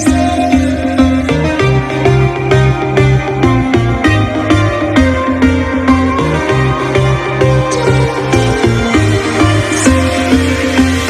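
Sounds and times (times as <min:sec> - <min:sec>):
pop song on speaker: 0:00.0 - 0:11.0.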